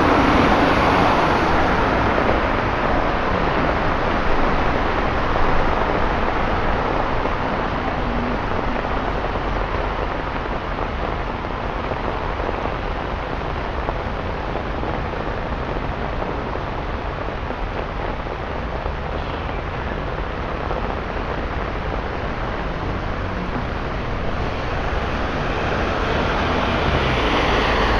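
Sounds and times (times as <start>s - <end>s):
rain on a wet street: 0.0s - 27.9s.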